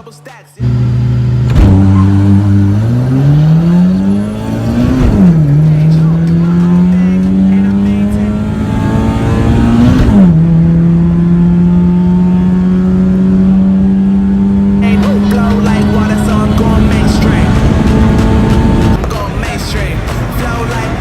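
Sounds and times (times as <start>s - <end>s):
car engine accelerating: 0.6s - 21.0s.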